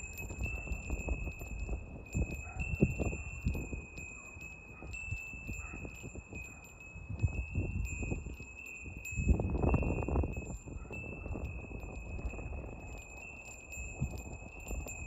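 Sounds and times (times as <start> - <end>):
wind buffeting microphone: 0.0 - 15.0
wind chime ringing: 0.0 - 15.0.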